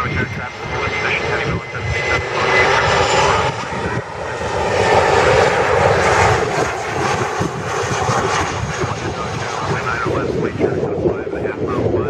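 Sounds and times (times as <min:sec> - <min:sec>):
jet airliner engines passing: 0:00.0 - 0:12.0.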